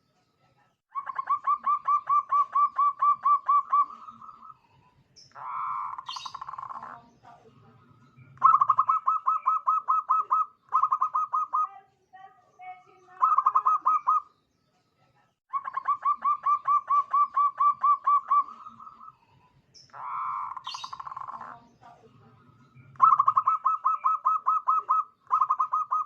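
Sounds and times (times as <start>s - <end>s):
dove cooing in staccato notes: 1.0s - 4.6s, 5.2s - 11.7s, 13.1s - 14.3s, 15.5s - 19.2s, 19.8s - 26.0s.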